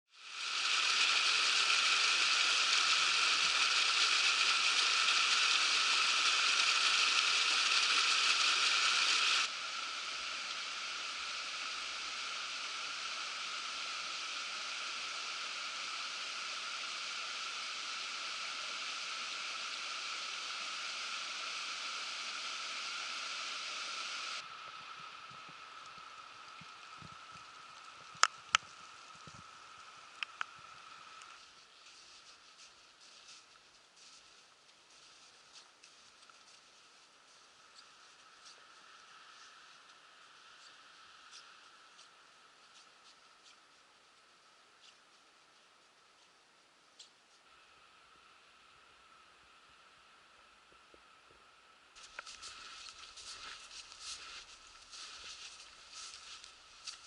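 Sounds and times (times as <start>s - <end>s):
steady hissing noise: 0.1s - 57.0s.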